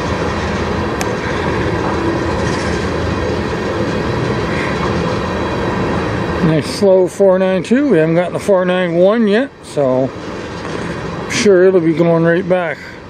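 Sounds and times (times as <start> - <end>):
train wheels rumbling and clattering: 0.0 - 13.0.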